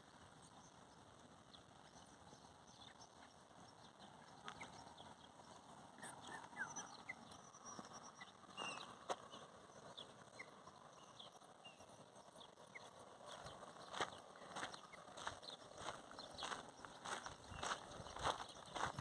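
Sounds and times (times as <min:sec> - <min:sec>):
faint bird chirps: 0:01.6 - 0:19.0.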